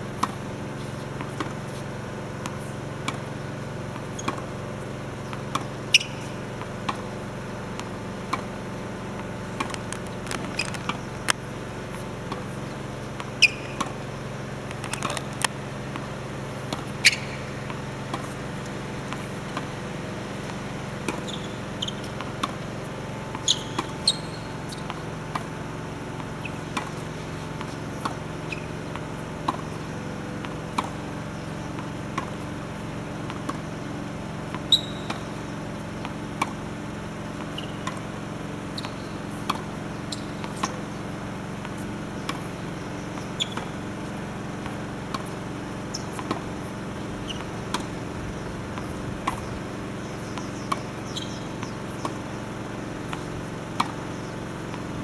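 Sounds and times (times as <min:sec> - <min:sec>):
steady low hum: 0:00.0 - 0:55.0
tennis racket hitting ball: 0:00.1 - 0:55.0.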